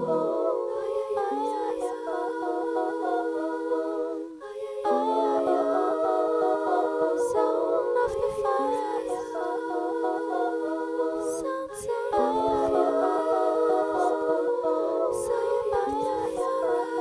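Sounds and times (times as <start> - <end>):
wordless layered vocals humming: 0.0 - 17.0.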